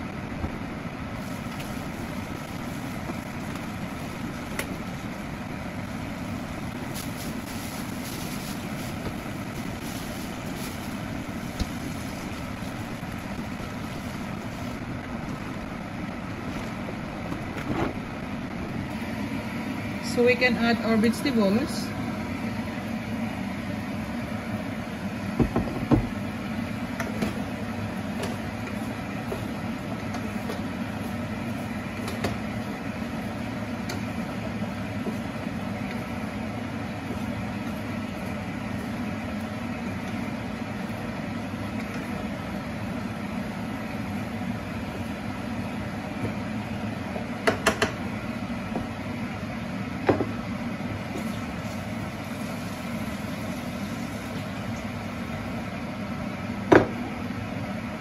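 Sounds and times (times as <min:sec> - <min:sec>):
food stir-frying in a pan: 0:00.7 - 0:15.7, 0:21.4 - 0:47.4, 0:48.0 - 0:57.9.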